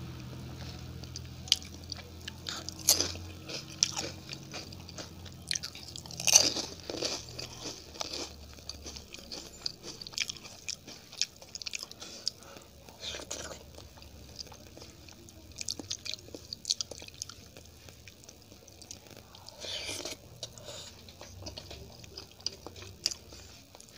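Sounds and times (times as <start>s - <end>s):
person chewing crisp food: 0.0s - 23.9s.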